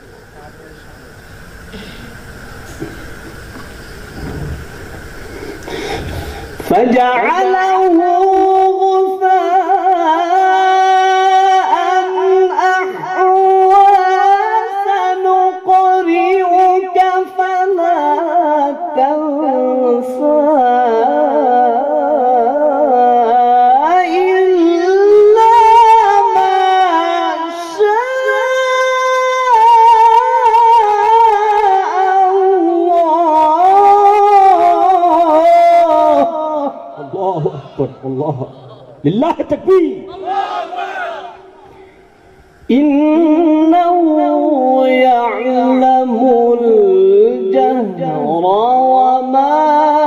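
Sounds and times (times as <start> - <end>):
man reciting melodically: 5.8 - 40.3, 42.7 - 50.0.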